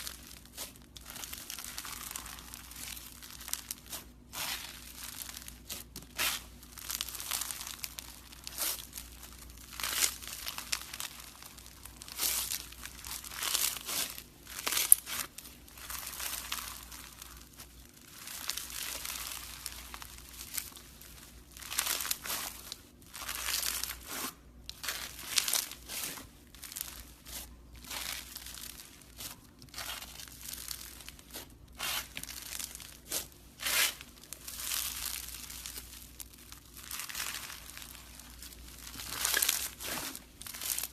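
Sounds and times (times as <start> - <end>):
slime crackling: 0.0 - 40.9.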